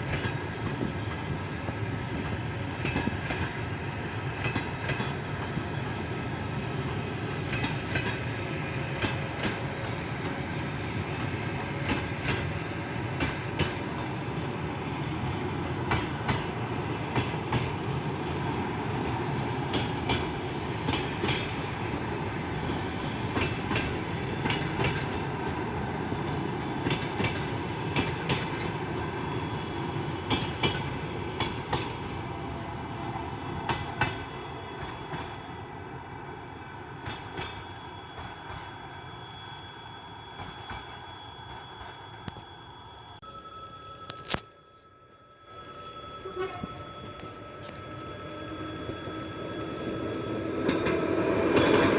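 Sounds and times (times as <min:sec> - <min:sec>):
train wheels rumbling on rails: 0:00.0 - 0:43.2, 0:45.7 - 0:51.9.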